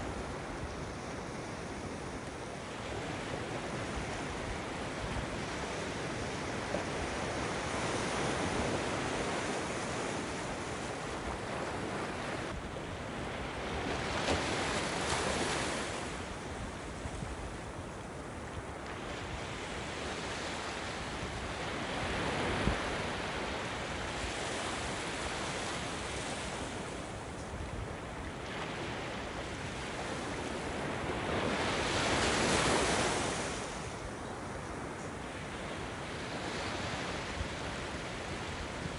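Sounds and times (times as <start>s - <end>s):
waves breaking on rocks and beach: 0.0s - 38.9s.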